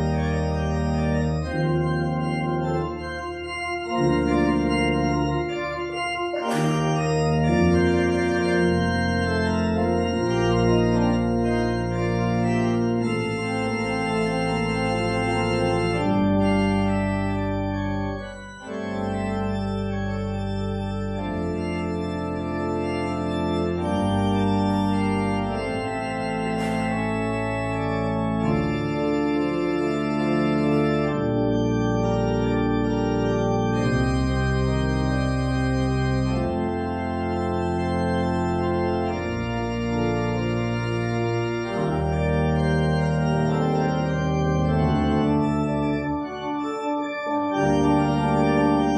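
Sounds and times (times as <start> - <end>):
organ playing sustained chords: 0.0 - 48.9.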